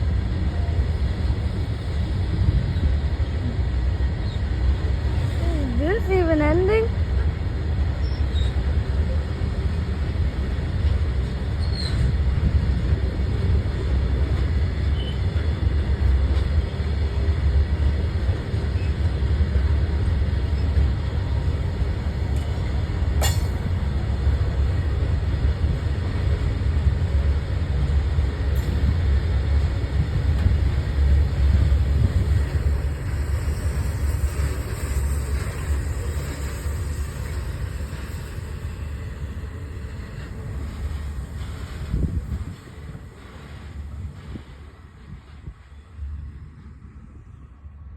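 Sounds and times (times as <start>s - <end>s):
train wagons rumbling past: 0.0s - 47.9s.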